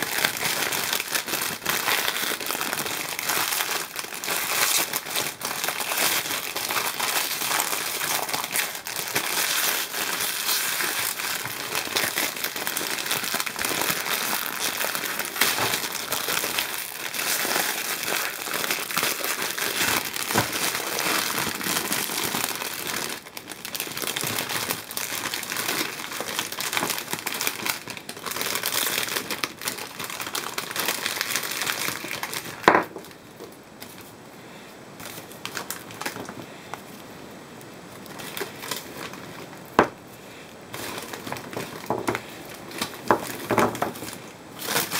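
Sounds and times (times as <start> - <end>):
cellophane and foil crinkling: 0.0 - 34.1, 35.0 - 37.1, 37.8 - 44.9.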